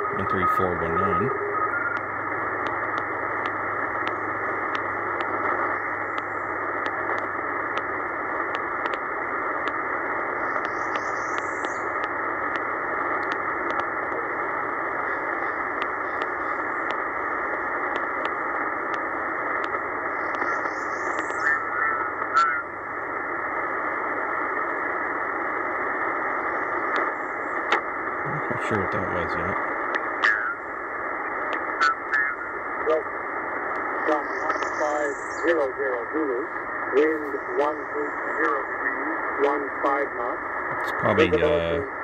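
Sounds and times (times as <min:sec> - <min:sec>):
shortwave radio hiss: 0:00.0 - 0:42.0.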